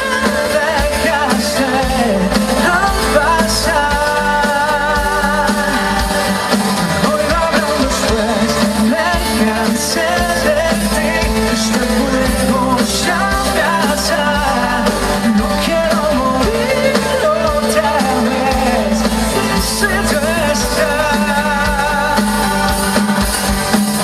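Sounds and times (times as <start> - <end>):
live pop-rock band with singer: 0.0 - 24.0.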